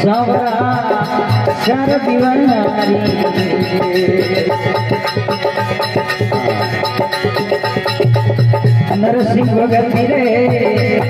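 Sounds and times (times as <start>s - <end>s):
harmonium melody: 0.0s - 11.0s
steady drum rhythm: 0.0s - 11.0s.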